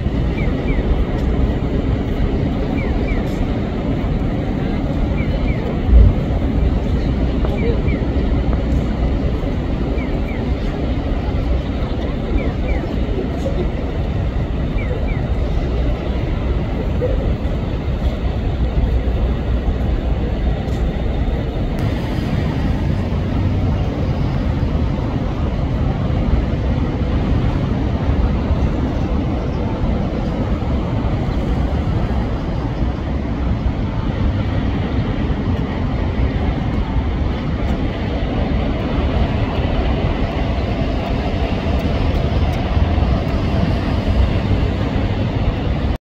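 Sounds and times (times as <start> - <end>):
low background rumble: 0.0 - 46.0.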